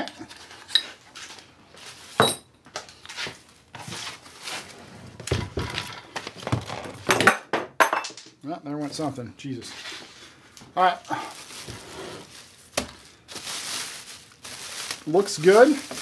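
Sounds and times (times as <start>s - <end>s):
plastic wrap and paper rustling: 0.0s - 2.2s, 2.8s - 7.0s, 8.8s - 16.0s.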